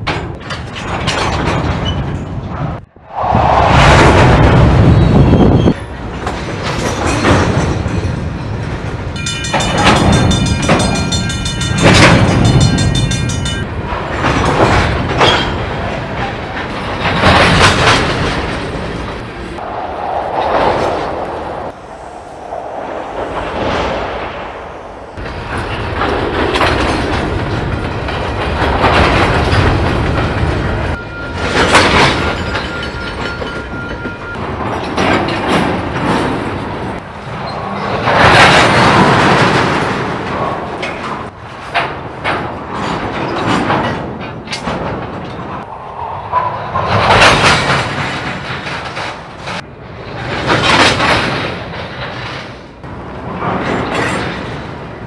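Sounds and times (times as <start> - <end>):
train couplers banging and clanking: 0.0 - 2.8, 4.0 - 19.6, 25.1 - 55.0
rolling train wheels rumble: 0.0 - 55.0.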